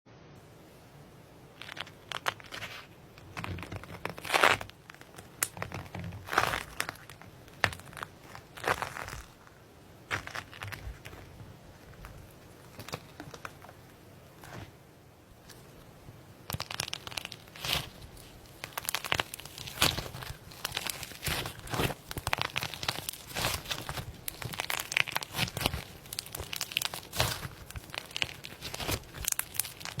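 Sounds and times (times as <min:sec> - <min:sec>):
slime squishing and crackling: 0:01.6 - 0:14.7, 0:15.4 - 0:30.0.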